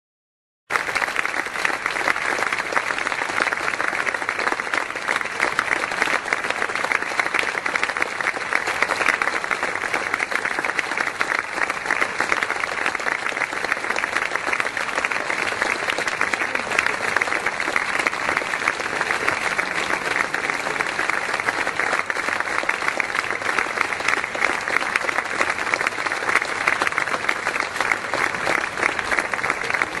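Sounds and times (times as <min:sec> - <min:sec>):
audience applauding: 0:00.7 - 0:30.0.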